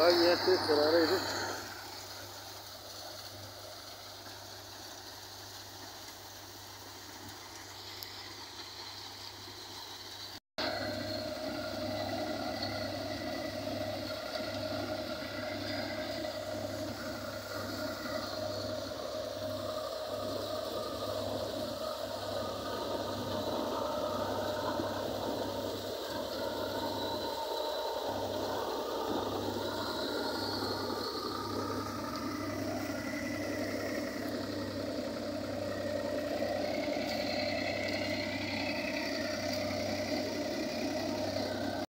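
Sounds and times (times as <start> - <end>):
diesel engine and thresher drone: 0.0 - 41.9.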